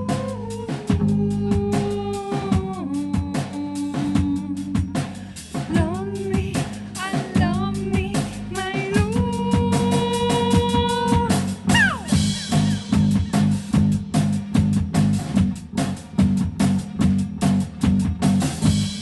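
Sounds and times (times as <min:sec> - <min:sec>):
bass guitar: 0:00.0 - 0:19.0
drum kit beat: 0:00.0 - 0:19.0.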